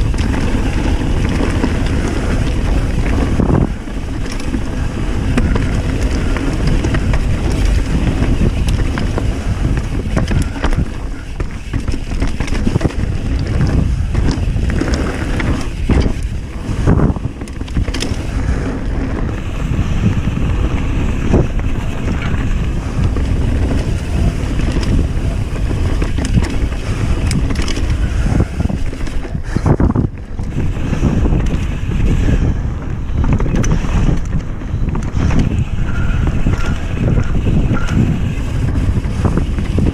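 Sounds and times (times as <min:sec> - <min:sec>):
bike knocks and rattles: 0:00.0 - 0:39.9
bike tyres rolling on dirt: 0:00.0 - 0:39.9
wind buffeting microphone: 0:00.0 - 0:39.9.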